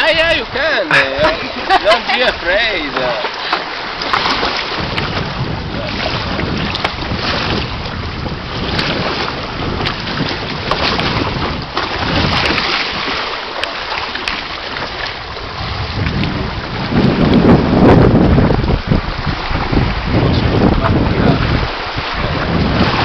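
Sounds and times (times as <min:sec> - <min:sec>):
water rushing and slapping hulls: 0:00.0 - 0:23.0
wind buffeting microphone: 0:00.0 - 0:23.0.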